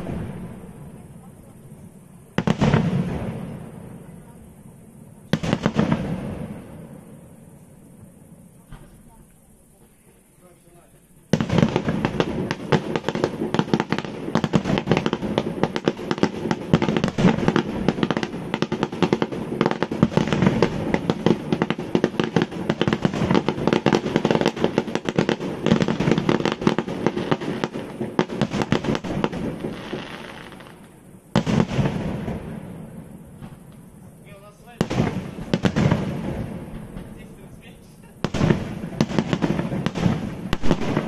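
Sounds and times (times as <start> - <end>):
firework bangs and crackles: 0.0 - 41.0.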